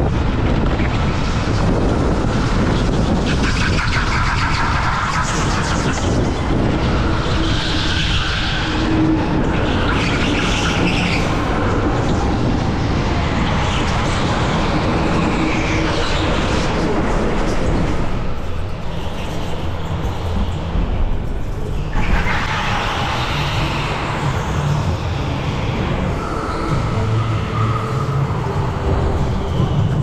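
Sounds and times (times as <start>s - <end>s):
electric go-kart running: 0.0s - 30.0s.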